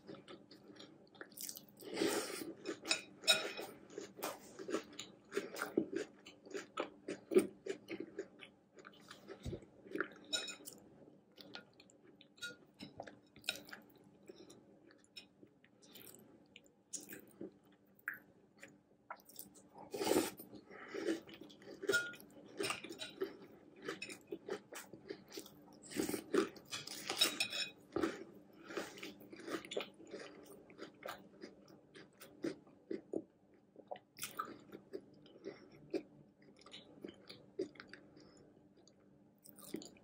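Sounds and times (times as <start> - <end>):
chewing crunchy cereal: 0.0 - 10.8, 11.4 - 40.0.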